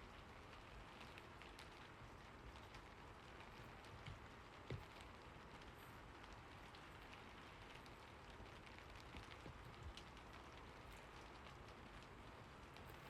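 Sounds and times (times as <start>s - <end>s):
faint steady rain: 0.0s - 13.0s
raindrop ticks: 0.0s - 13.0s.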